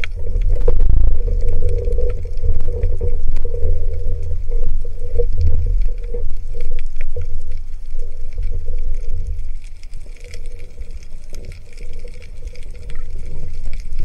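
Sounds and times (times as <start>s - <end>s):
faint clicks and crackles: 0.0s - 14.0s
underwater water rumble: 0.0s - 14.0s.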